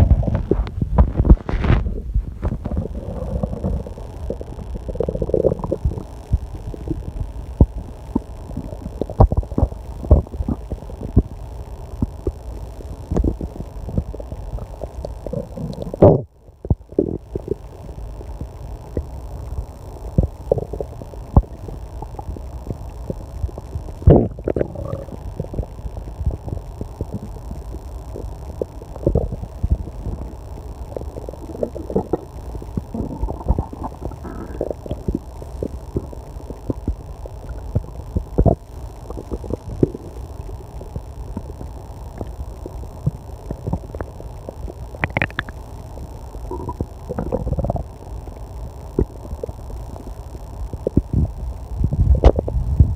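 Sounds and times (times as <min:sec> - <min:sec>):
stomach growling and gurgling: 0:00.0 - 0:52.9.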